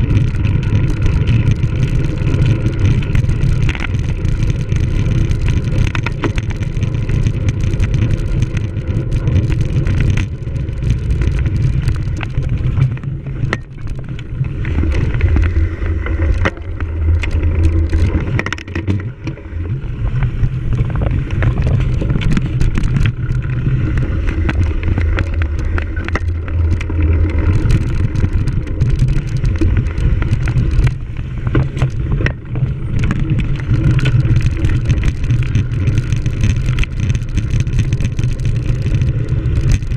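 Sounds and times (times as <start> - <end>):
bicycle rumble on rough ground: 0.0 - 39.9
bike knocks and rattles: 0.0 - 39.9.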